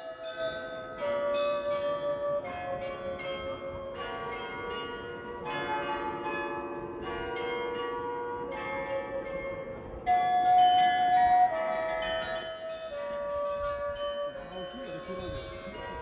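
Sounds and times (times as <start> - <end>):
carillon bells playing melody: 0.0 - 16.0.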